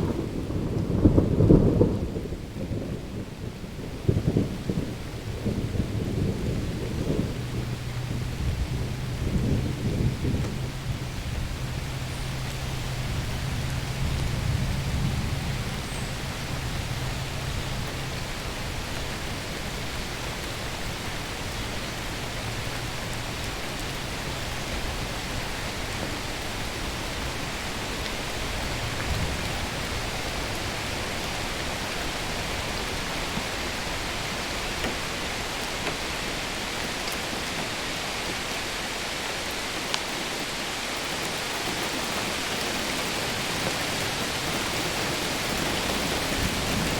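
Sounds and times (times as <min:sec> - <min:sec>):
rain hiss: 0:00.0 - 0:46.9
thunder rumble: 0:00.0 - 0:46.9.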